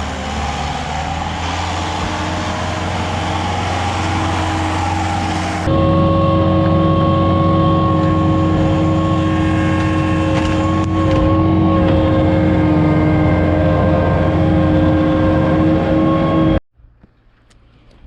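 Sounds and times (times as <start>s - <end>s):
diesel engine running: 0.0s - 16.6s
high hydraulic whine: 0.0s - 16.6s.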